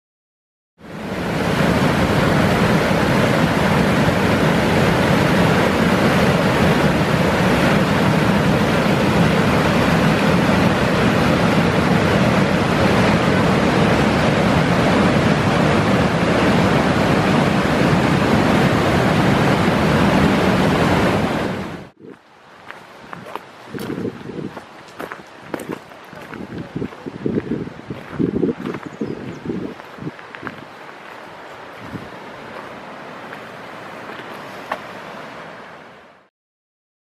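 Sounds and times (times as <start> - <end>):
river water rushing over rocks: 0.8 - 28.2, 29.3 - 36.2.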